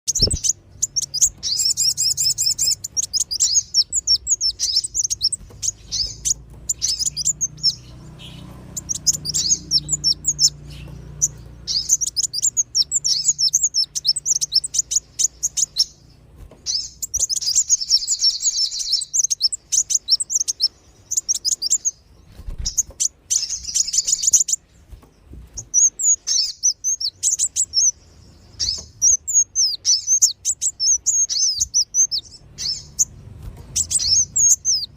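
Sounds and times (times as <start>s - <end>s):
sunbirds chirping: 0.1s - 34.9s.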